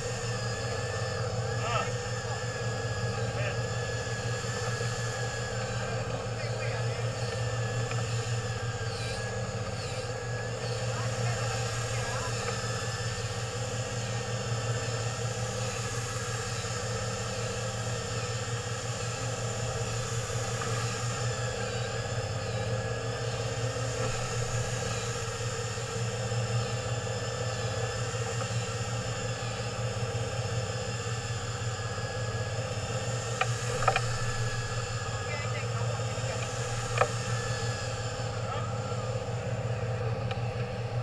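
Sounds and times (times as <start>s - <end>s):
boat engine idling: 0.0s - 41.0s
faint wavering whine: 0.0s - 41.0s.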